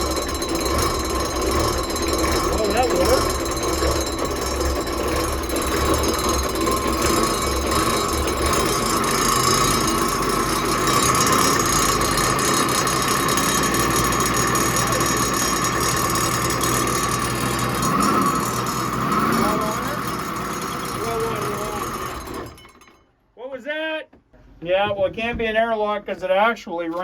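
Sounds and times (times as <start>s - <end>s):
diesel engine running with rattle: 0.0s - 23.0s.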